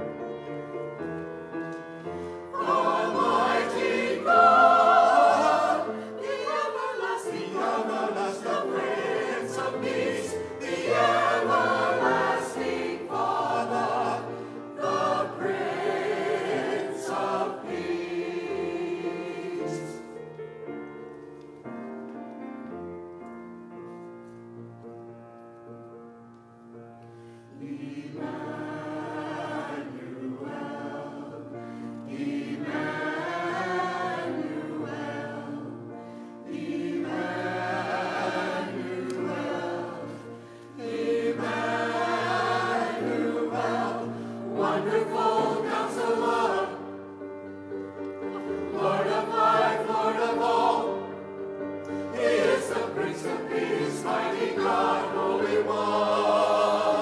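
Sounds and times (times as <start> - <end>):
mixed choir singing: 2.0 - 20.7, 27.5 - 57.0.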